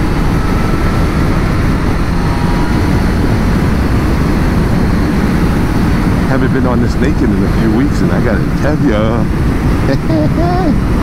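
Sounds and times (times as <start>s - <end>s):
motorcycle engine running: 0.0s - 11.0s
wind rushing on microphone: 0.0s - 11.0s.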